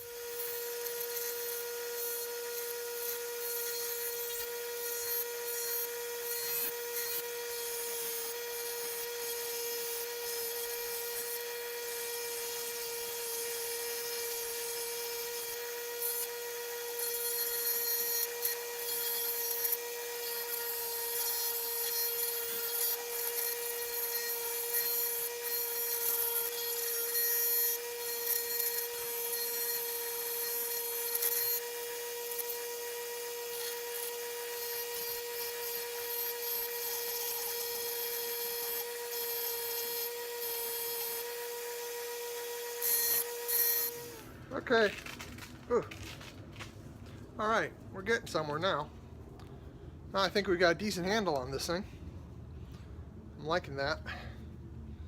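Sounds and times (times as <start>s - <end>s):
power grinder motor whine: 0.0s - 46.7s
wood rasping on abrasive: 0.0s - 46.7s.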